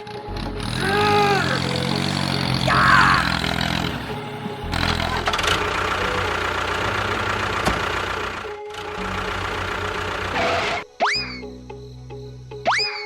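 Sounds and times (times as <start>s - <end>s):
small motor running: 0.0s - 10.8s.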